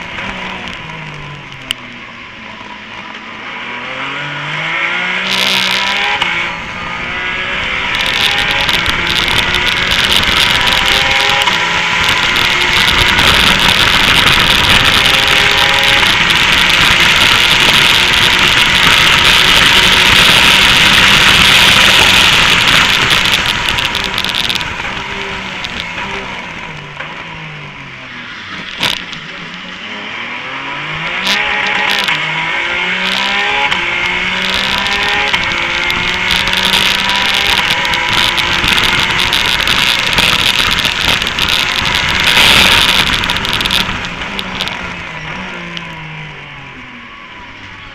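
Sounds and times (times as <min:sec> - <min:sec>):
race car engine accelerating: 0:00.0 - 0:47.9
wind noise: 0:05.0 - 0:27.8, 0:28.5 - 0:29.4, 0:31.0 - 0:46.2.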